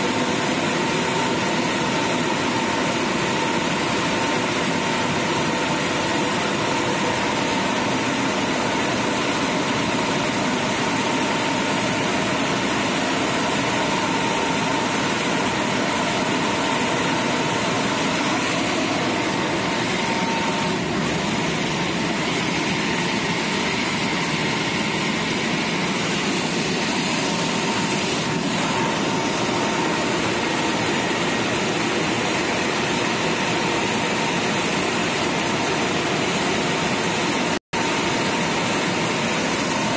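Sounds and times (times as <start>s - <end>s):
thin steady whine: 0.0s - 35.8s
car wash machinery and blowers: 0.0s - 39.9s.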